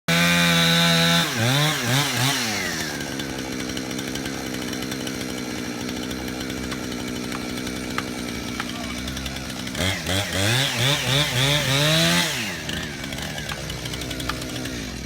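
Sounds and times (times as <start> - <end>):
chainsaw engine revving and idling: 0.1 - 15.0.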